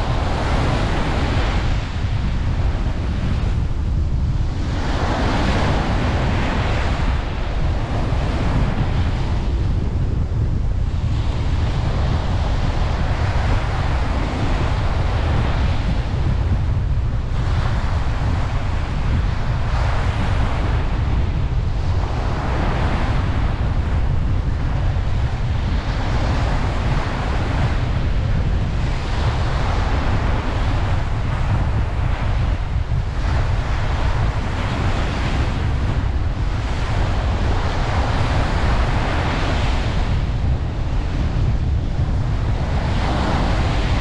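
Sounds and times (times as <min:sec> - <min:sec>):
ocean waves breaking on beach: 0:00.0 - 0:44.0
steady low rumble: 0:00.0 - 0:44.0.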